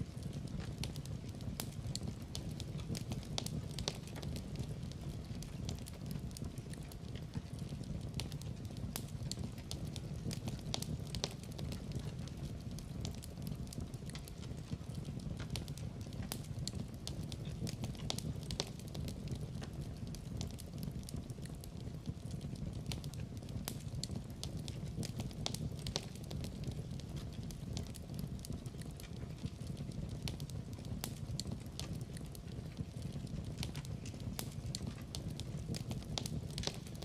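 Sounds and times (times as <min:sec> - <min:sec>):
wood fire crackling in fireplace: 0:00.0 - 0:37.0.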